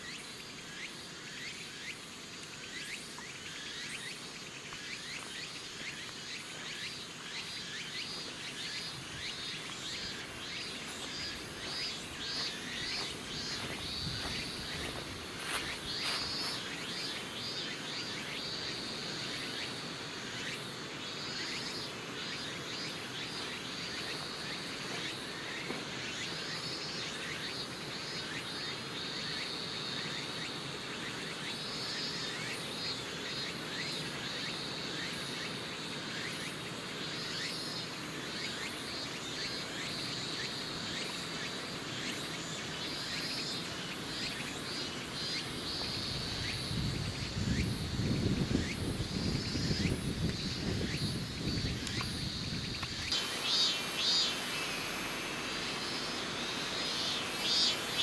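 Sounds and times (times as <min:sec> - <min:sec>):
background hiss: 0:00.0 - 0:58.0
insects trilling chorus: 0:00.0 - 0:58.0.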